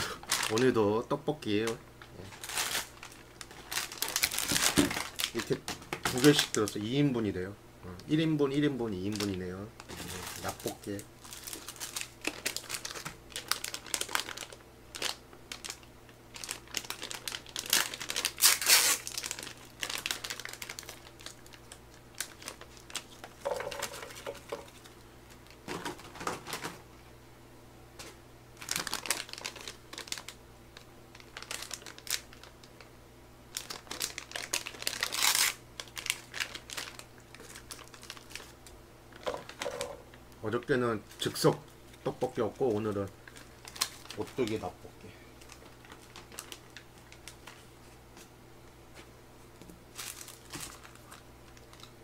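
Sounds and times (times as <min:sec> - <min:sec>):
plastic packaging crinkling and tearing: 0:00.1 - 0:07.0, 0:08.5 - 0:26.8, 0:28.0 - 0:32.8, 0:33.5 - 0:40.1, 0:41.0 - 0:44.8, 0:45.4 - 0:48.0, 0:49.9 - 0:52.0.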